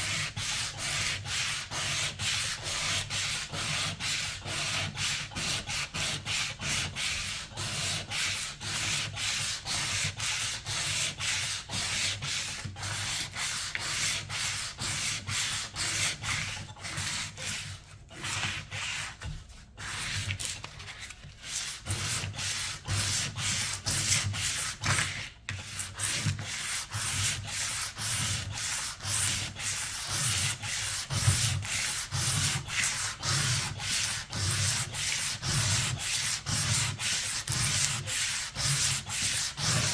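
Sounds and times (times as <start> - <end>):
sandpaper sanding by hand: 0.0 - 20.5, 21.4 - 39.9.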